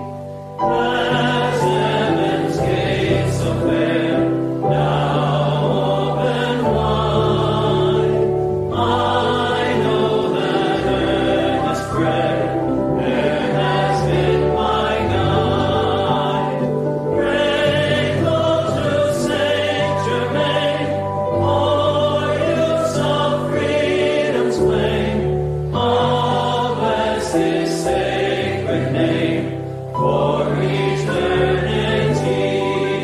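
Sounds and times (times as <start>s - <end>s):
choir singing with vibrato: 0.0s - 33.0s
low sustained notes: 0.0s - 33.0s.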